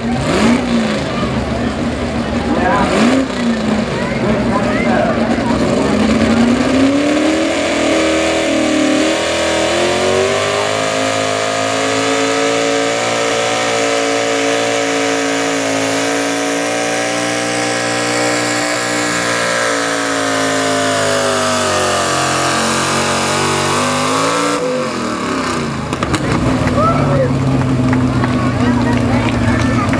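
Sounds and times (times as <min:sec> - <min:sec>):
truck engine at full throttle: 0:00.0 - 0:29.9.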